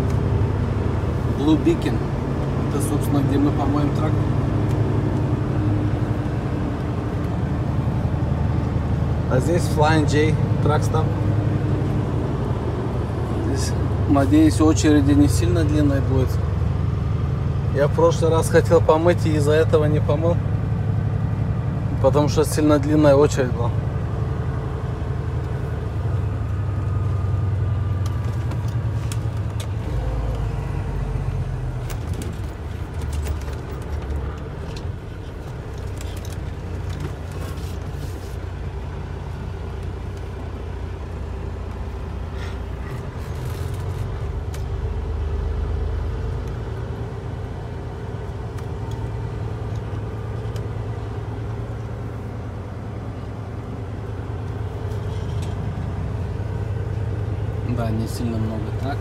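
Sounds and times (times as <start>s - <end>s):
truck diesel engine rumble: 0.0s - 59.0s.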